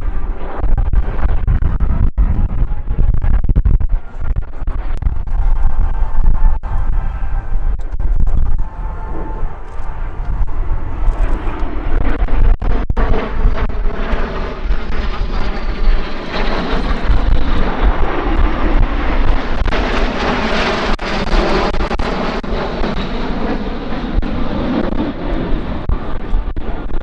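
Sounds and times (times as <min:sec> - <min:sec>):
high jet whine: 0:00.0 - 0:27.0
jet roar flying past: 0:00.0 - 0:27.0.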